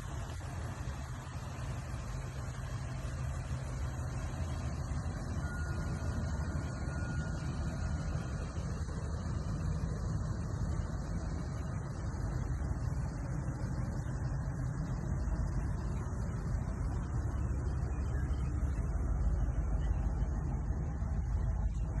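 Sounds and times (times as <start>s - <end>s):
faint high steady tone: 0.0s - 22.0s
vehicle engine rumbling: 0.0s - 22.0s.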